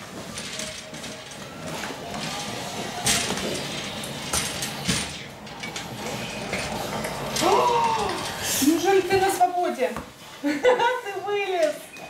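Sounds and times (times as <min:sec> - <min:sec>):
metal bed frame rattling: 0:00.0 - 0:09.8.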